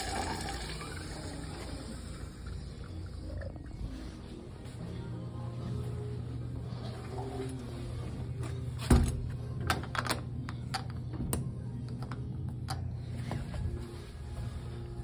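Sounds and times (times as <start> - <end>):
steady low hum: 0.8 - 15.0.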